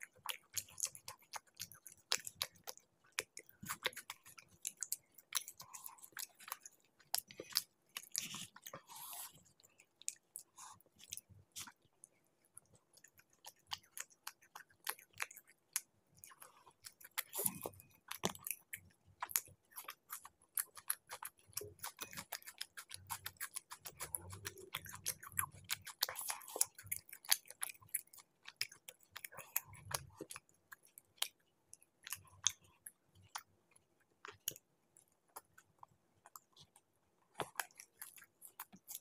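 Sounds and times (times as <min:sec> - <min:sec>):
chewing and mouth smacking: 0:00.0 - 0:39.0.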